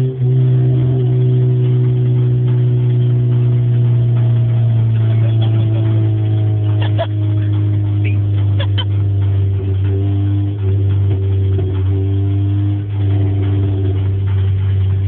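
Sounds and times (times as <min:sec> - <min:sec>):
car engine drone: 0:00.0 - 0:15.0
sharp ticks: 0:00.0 - 0:15.0.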